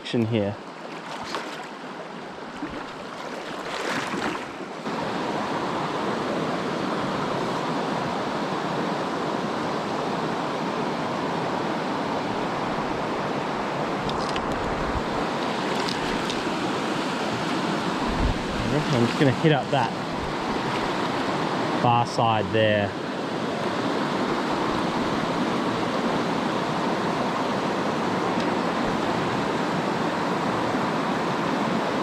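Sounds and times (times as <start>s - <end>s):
river water rushing over boulders: 0.1s - 32.0s.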